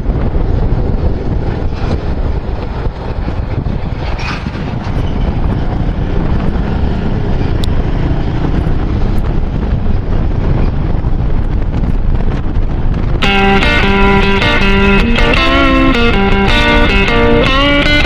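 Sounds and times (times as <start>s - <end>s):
wind rush over microphone: 0.0s - 18.0s.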